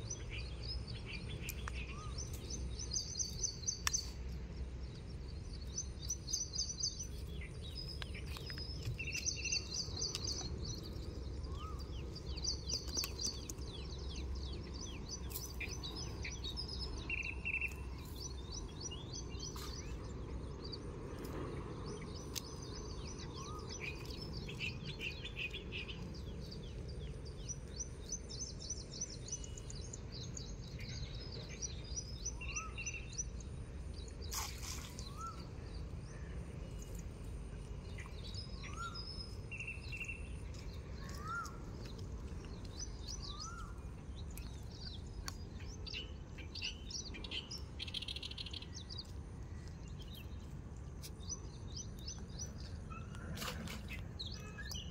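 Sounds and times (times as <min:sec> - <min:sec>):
small birds chirping: 0:00.0 - 0:54.9
steady low rumble: 0:00.0 - 0:54.9.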